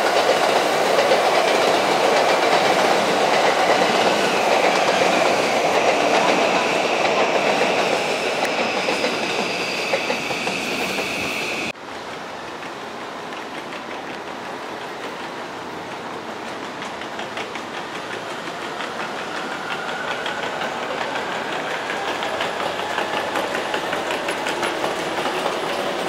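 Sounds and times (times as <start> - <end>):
train high whine: 0.0 - 13.4, 17.5 - 26.0
electric train wheels clattering: 0.0 - 26.0.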